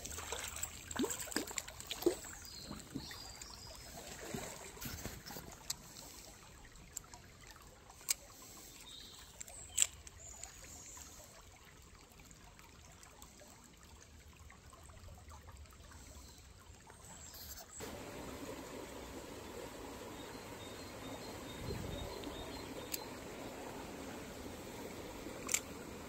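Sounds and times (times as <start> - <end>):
stream trickling: 0.0 - 26.0.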